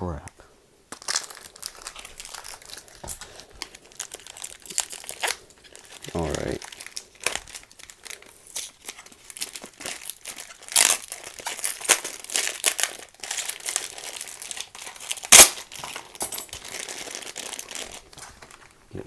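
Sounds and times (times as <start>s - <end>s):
packaging crinkling and tearing: 0.9s - 18.9s.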